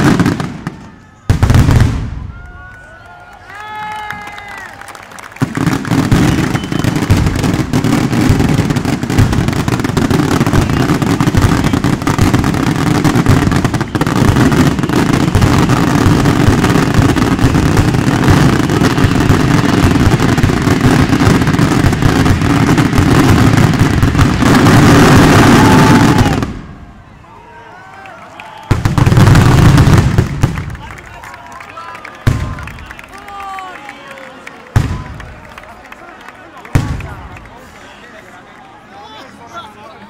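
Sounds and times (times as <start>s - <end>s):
firecrackers crackling: 0.0s - 27.0s, 28.6s - 37.8s.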